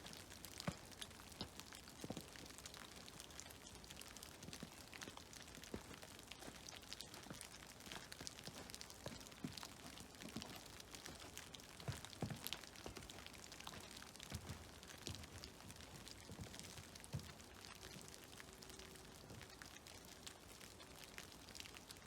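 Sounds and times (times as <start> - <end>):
meltwater dripping from trees: 0.0 - 22.0.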